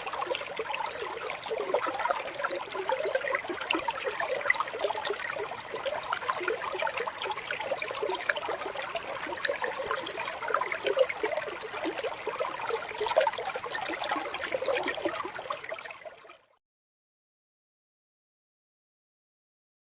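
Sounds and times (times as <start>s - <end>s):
water trickling and gurgling: 0.0s - 16.6s.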